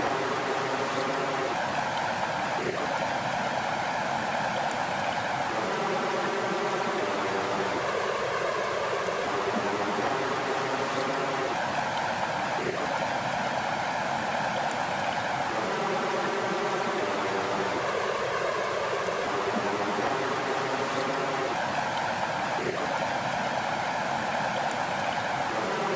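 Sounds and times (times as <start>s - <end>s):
flowing water: 0.0s - 25.9s.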